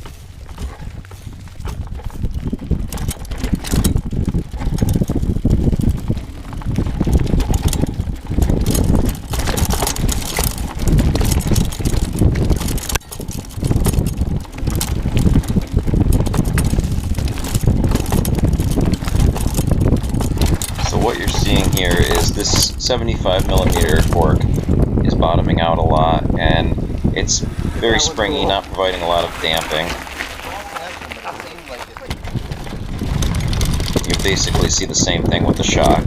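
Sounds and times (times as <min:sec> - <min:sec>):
bike tyres on dirt trail: 0:00.0 - 0:36.0
rattling clicks over bumps: 0:00.0 - 0:36.0
wind buffeting microphone: 0:00.0 - 0:36.0.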